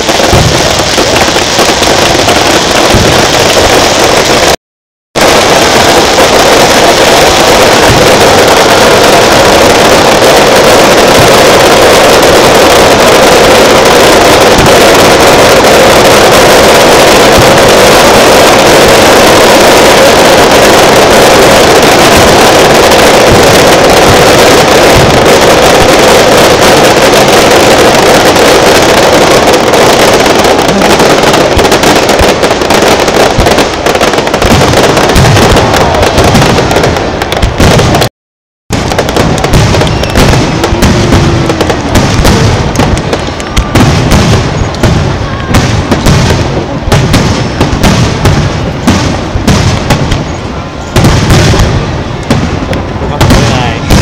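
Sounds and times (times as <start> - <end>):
fireworks bursts and crackling: 0.0 - 4.6, 5.2 - 38.1, 38.7 - 54.0.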